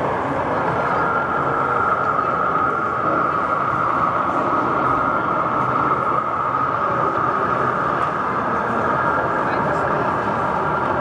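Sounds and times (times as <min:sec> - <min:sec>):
model train engine: 0:00.0 - 0:11.0.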